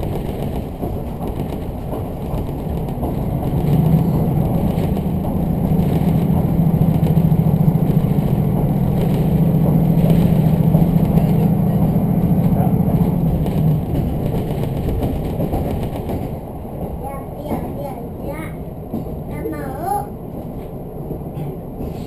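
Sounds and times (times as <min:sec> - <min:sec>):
wheels rumbling on rails: 0:00.0 - 0:22.0.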